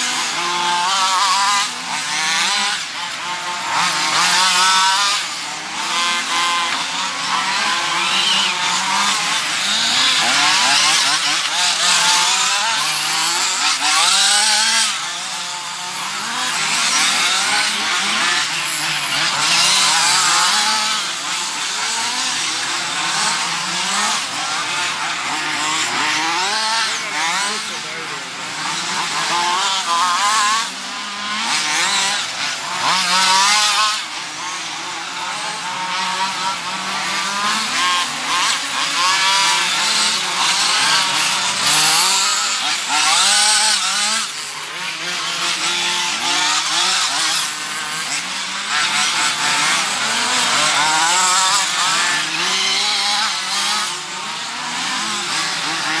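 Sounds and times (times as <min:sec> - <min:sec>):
rc car engines screaming: 0:00.0 - 0:56.0.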